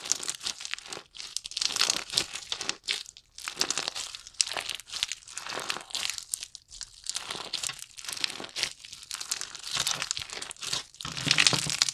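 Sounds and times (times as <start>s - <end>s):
slime squishing and crackling: 0.0s - 11.9s.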